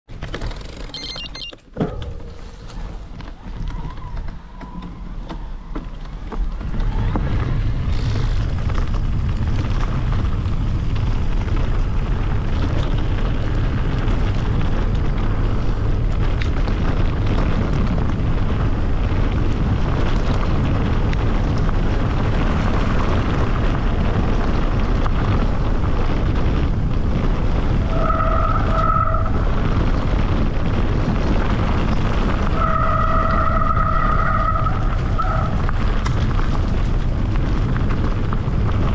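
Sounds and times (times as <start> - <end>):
wind buffeting microphone: 2.1 - 38.9.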